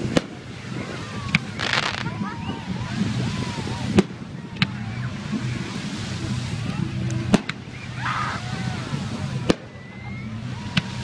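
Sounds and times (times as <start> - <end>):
fireworks crack: 0.0 - 8.0, 8.9 - 9.8
crowd chatter: 0.0 - 11.0.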